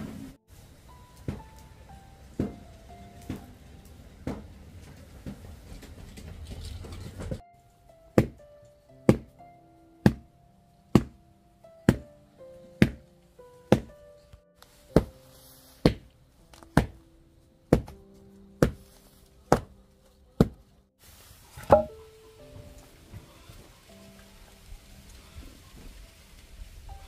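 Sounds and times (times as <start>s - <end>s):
slow melody of held notes: 0.4s - 5.1s, 7.4s - 20.9s, 21.6s - 27.0s.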